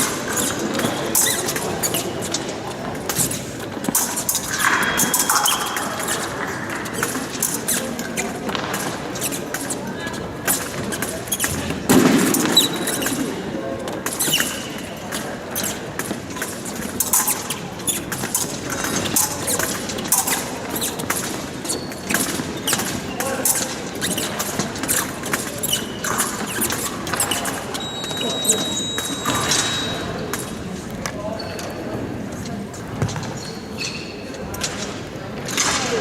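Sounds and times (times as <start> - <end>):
shoes squeaking on floor: 0.0 - 35.0.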